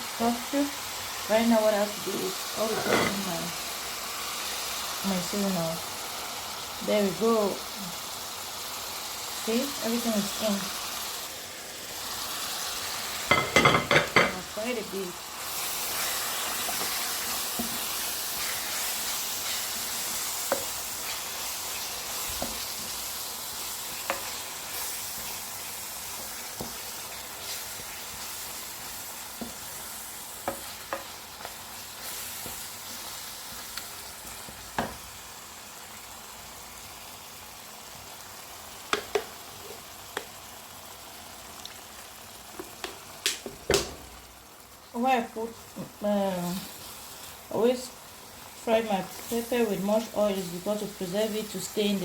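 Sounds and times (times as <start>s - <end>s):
pepper sizzling in hot oil: 0.0s - 52.0s.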